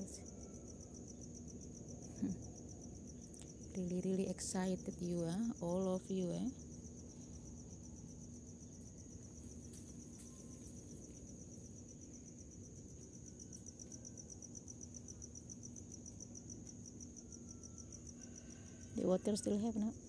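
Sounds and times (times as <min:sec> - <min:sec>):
crickets trilling: 0:00.0 - 0:20.0
low steady hum: 0:00.0 - 0:20.0.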